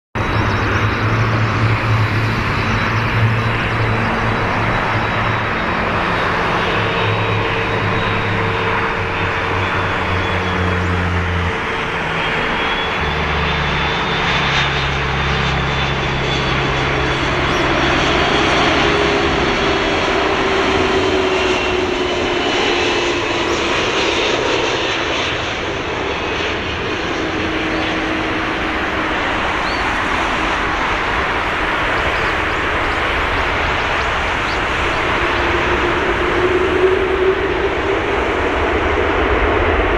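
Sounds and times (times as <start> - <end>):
jet engines roaring: 0.2 - 39.9.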